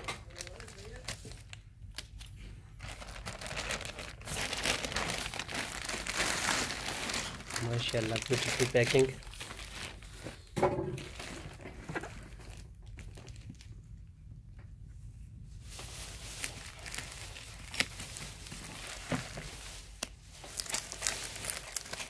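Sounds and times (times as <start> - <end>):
tape crinkling and crackling: 0.0 - 14.7, 15.6 - 22.0.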